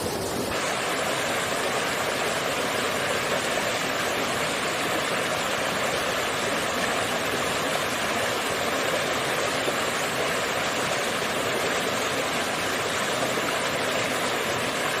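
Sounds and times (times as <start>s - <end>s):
small waterfall splashing: 0.0s - 15.0s.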